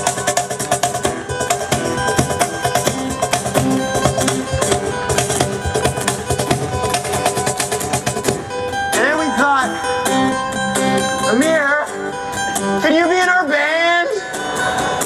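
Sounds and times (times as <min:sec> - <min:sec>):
percussion: 0:00.0 - 0:13.0
acoustic guitar strummed fast: 0:00.0 - 0:15.0.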